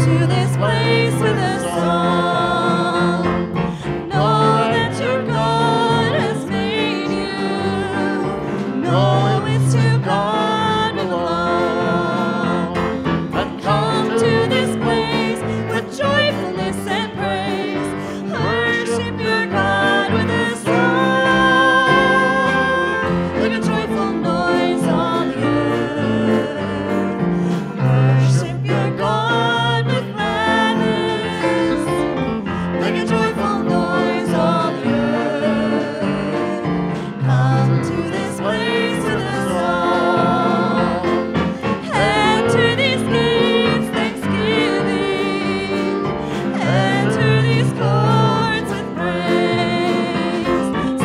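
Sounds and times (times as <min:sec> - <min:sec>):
congregation singing a hymn: 0:00.0 - 0:51.0
keyboard accompaniment: 0:00.0 - 0:51.0.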